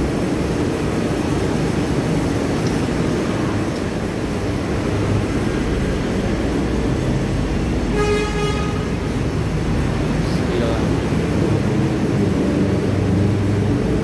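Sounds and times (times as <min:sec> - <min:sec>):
road traffic and bus engines: 0:00.0 - 0:14.0.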